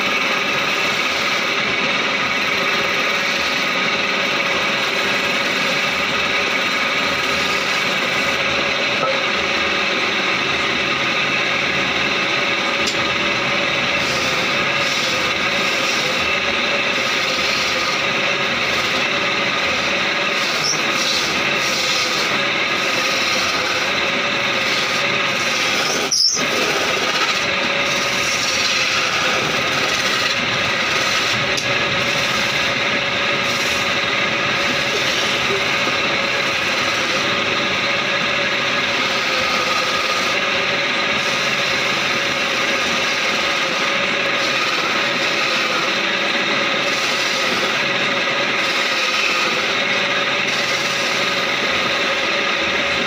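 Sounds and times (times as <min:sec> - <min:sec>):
chisel scraping spinning wood: 0:00.0 - 0:53.0
wood lathe running: 0:00.0 - 0:53.0.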